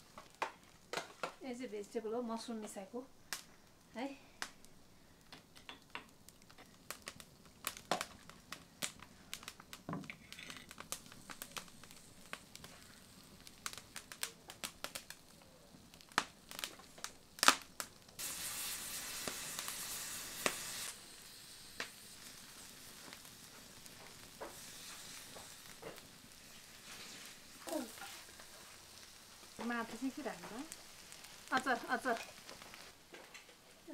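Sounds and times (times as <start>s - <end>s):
steady hiss: 0.0s - 33.9s
wood fire crackling and popping: 0.0s - 33.9s.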